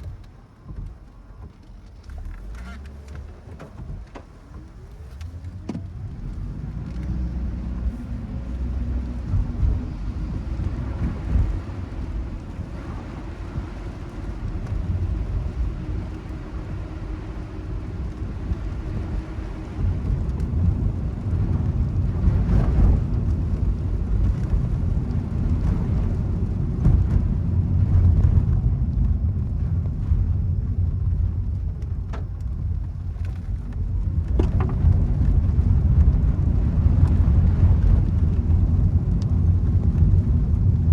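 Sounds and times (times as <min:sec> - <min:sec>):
car driving on wet road: 0:00.0 - 0:40.9
rain: 0:00.0 - 0:40.9.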